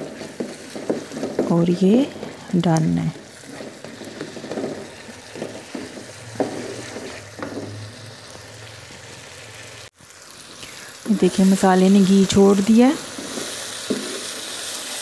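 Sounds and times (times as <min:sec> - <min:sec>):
spatula scraping a wok: 0:00.0 - 0:09.8, 0:12.3 - 0:15.0
sauce sizzling in a wok: 0:00.0 - 0:15.0.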